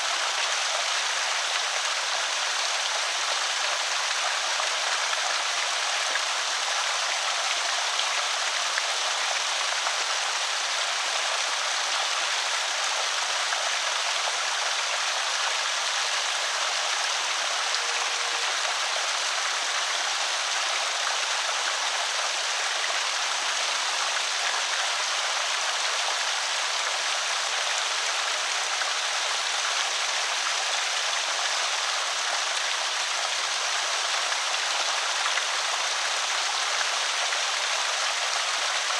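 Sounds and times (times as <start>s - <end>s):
water pouring over spillway: 0.0s - 38.9s.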